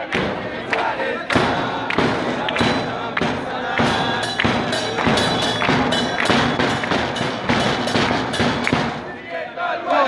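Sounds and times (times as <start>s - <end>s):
drum beat: 0.0s - 9.3s
crowd chanting: 0.0s - 10.0s.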